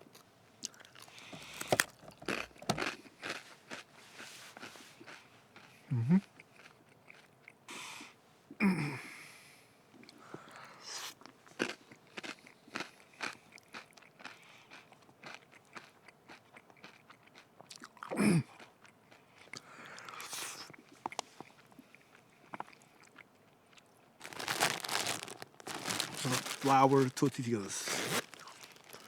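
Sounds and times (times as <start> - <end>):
crunching crisp crackers: 0.0 - 7.6, 10.0 - 29.0.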